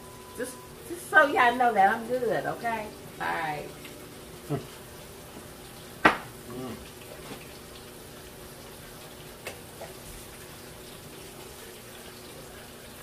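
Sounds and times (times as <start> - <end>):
food frying in hot oil: 0.0 - 13.0.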